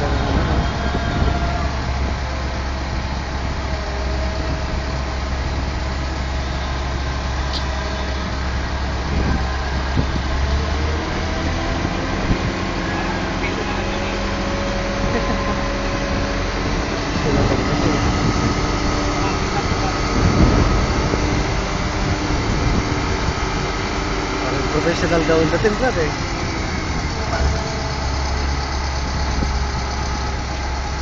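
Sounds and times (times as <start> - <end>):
crane engine droning: 0.0 - 31.0.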